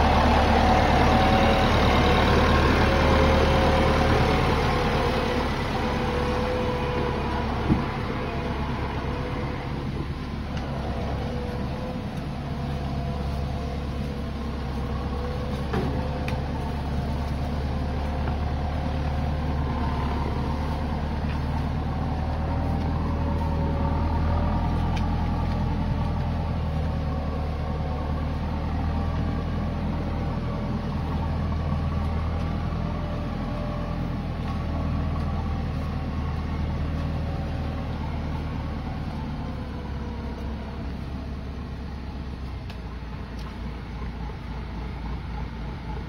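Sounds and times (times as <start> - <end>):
high engine whine: 0.0 - 46.0
tractor diesel engine running: 0.0 - 46.0.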